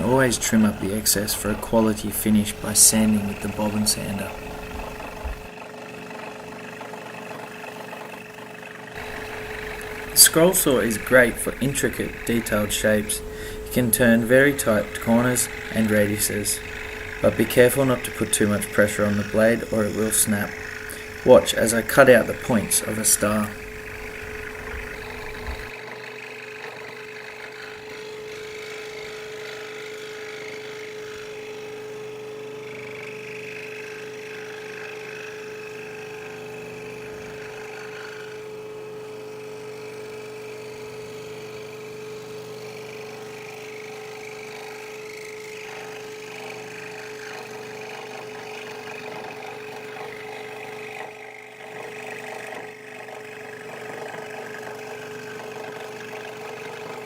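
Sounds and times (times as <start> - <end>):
scroll saw cutting wood: 0.0 - 57.0.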